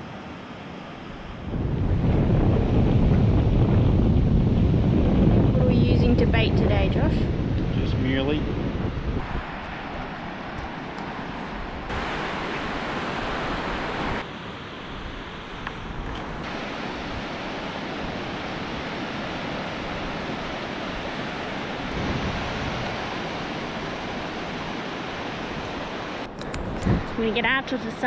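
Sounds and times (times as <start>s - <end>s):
wind buffeting microphone: 0.0s - 14.2s, 14.9s - 28.0s
beach surf rushing: 0.0s - 28.0s.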